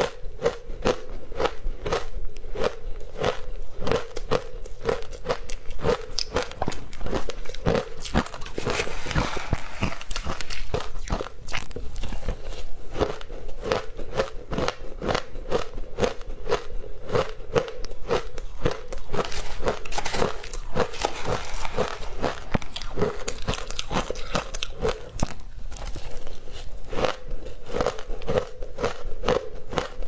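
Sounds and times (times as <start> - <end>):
crunching ice chewing: 0.0 - 30.0.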